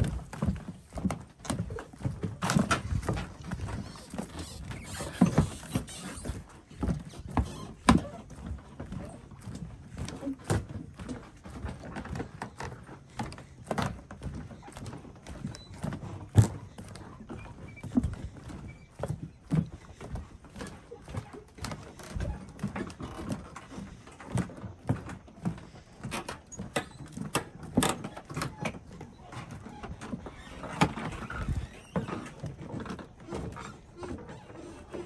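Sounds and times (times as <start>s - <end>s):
footsteps on wooden planks: 0.0s - 35.0s.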